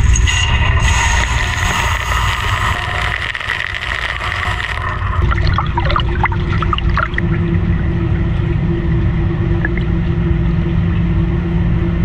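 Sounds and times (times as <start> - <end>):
machine hum: 0.0 - 12.0
water gurgling and dripping: 0.8 - 10.6.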